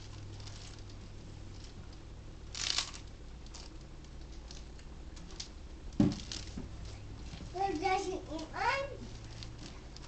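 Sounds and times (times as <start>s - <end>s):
low steady hum: 0.0s - 10.0s
small rustles and ticks: 0.0s - 10.0s.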